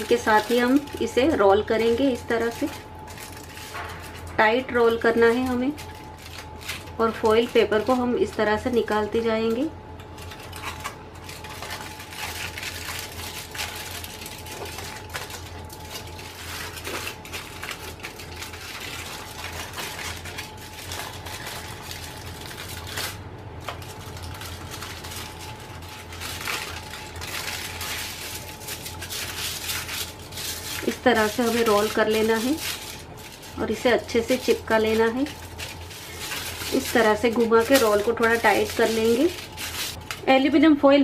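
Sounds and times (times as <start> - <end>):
aluminium foil crinkling: 0.0 - 40.7
low steady hum: 0.0 - 41.0.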